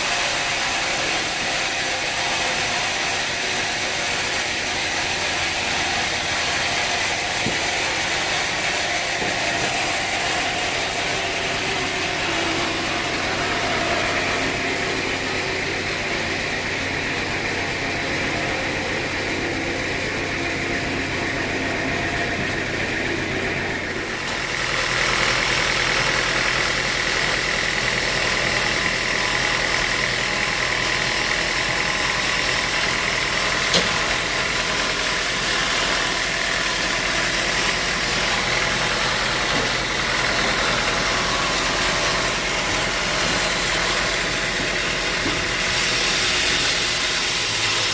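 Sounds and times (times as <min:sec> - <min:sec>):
sawmill machinery droning: 0:00.0 - 0:47.9.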